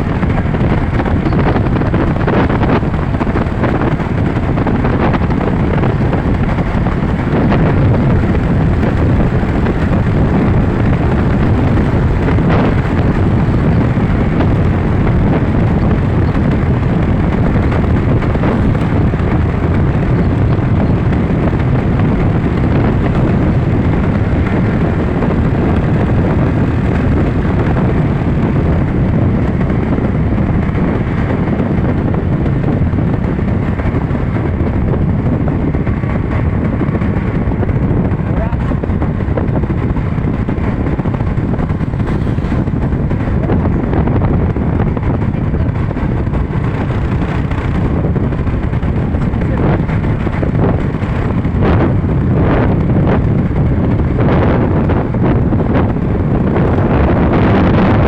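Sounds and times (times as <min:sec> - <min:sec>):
road noise: 0:00.0 - 0:58.0
vehicle engine drone: 0:00.0 - 0:58.0
wind buffeting microphone: 0:00.0 - 0:58.0.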